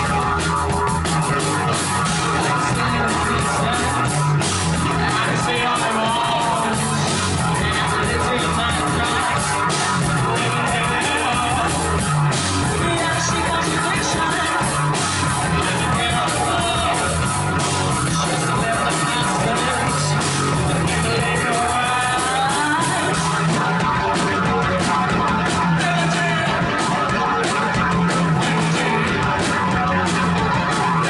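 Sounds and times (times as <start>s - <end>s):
live heavy rock band: 0.0s - 31.0s.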